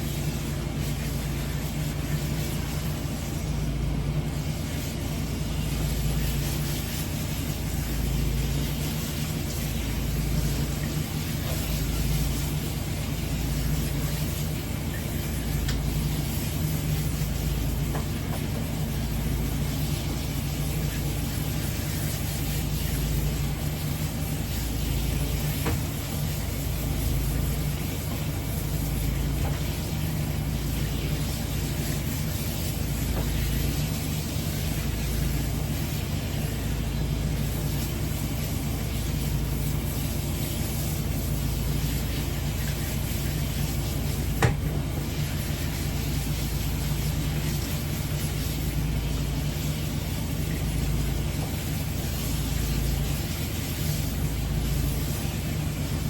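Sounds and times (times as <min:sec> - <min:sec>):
water spraying: 0:00.0 - 0:56.0.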